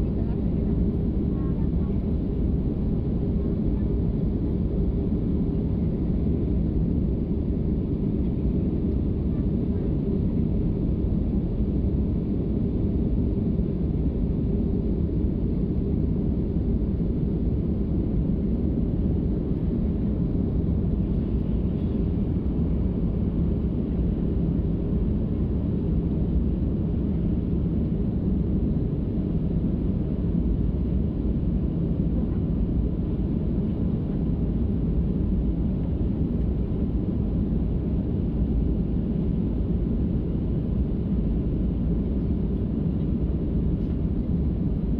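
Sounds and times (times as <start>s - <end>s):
airliner cabin drone: 0.0s - 44.9s.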